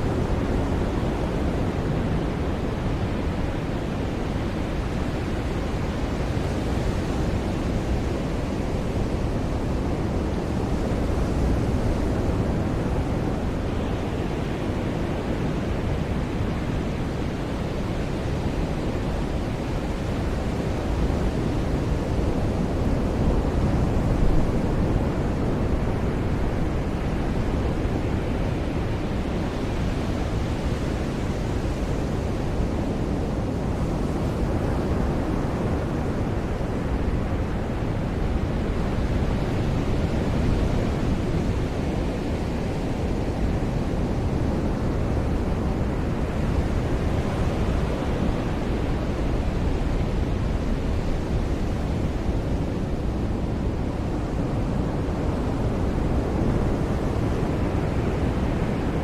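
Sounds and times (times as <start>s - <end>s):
ocean waves washing on beach: 0.0s - 59.0s.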